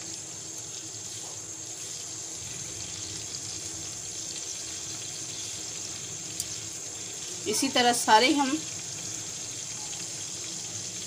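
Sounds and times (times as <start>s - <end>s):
gourds sizzling in frying pan: 0.0s - 11.0s.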